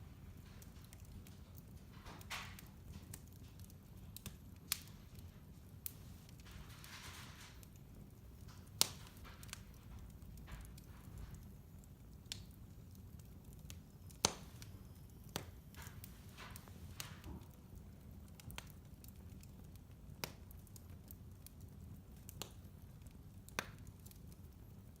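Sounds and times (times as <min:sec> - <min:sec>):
fire crackling and popping: 0:00.0 - 0:25.0
fire rumbling: 0:00.0 - 0:25.0.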